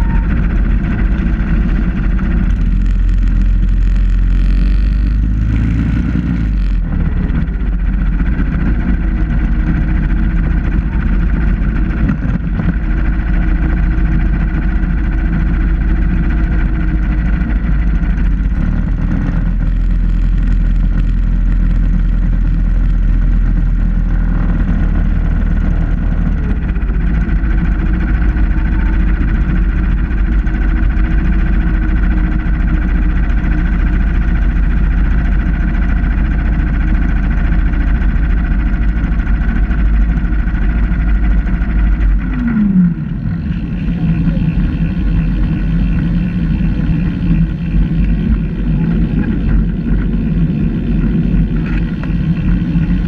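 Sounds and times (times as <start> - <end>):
road noise: 0.0 - 53.0
small engine running: 0.0 - 53.0
wind rumble: 0.0 - 53.0.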